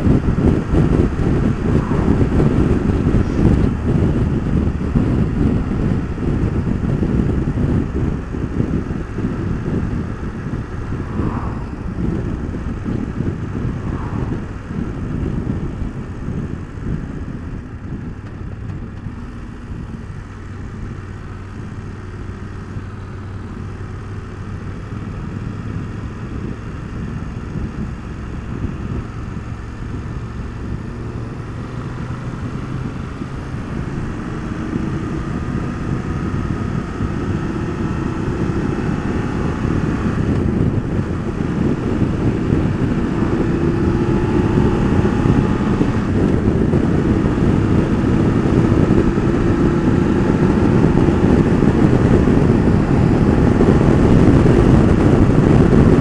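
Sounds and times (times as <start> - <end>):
motorcycle engine: 0.0 - 56.0
wind rush: 0.0 - 56.0.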